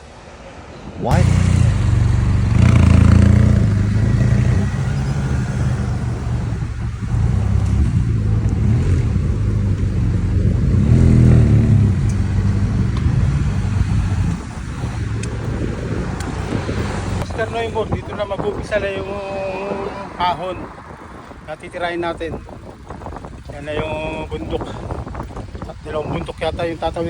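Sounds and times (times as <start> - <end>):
wind buffeting microphone: 0.8 - 27.0.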